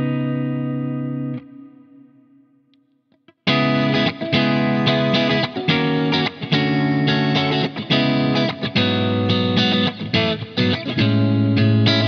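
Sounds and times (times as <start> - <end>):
clean electric guitar strummed chords: 0.0 - 12.0.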